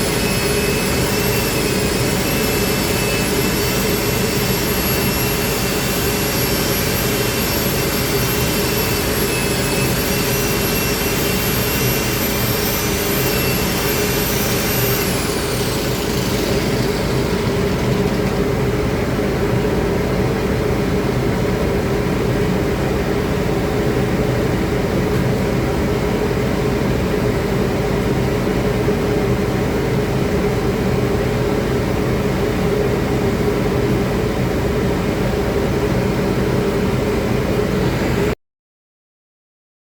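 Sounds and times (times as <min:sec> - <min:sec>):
loud machinery drone: 0:00.0 - 0:38.4.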